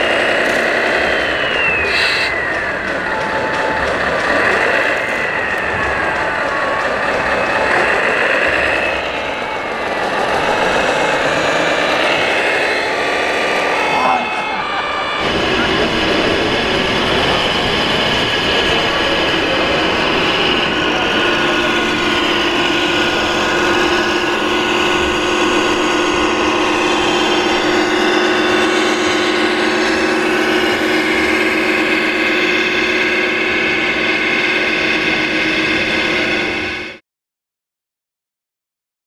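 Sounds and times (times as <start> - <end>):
crowd chatter: 0.0 - 37.0
model truck engine sounds: 0.0 - 37.0.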